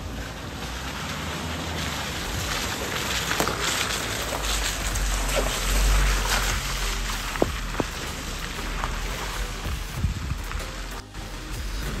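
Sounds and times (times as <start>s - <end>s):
rain pattering: 0.0s - 12.0s
low rumble: 2.0s - 12.0s.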